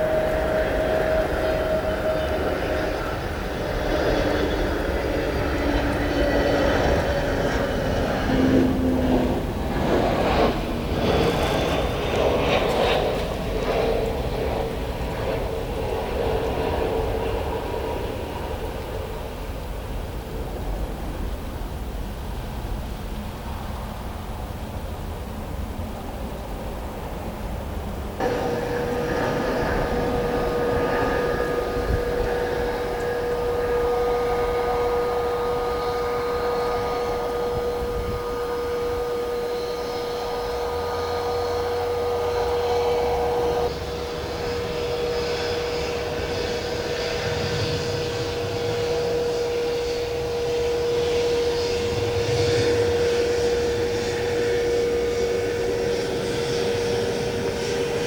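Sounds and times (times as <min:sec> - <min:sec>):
jet engine whine: 0:00.0 - 0:58.0
rush of engine noise: 0:00.0 - 0:58.0.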